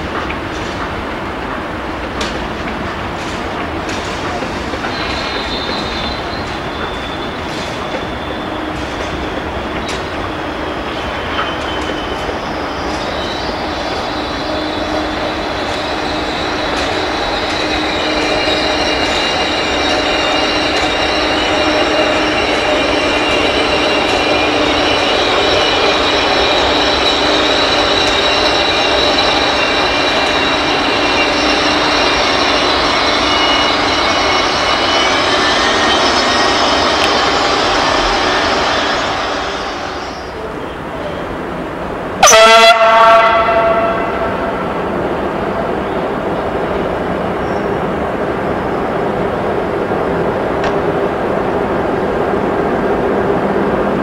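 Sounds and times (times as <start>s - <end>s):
rumble of train cars: 0.0s - 54.0s
train wheels squealing: 0.0s - 54.0s.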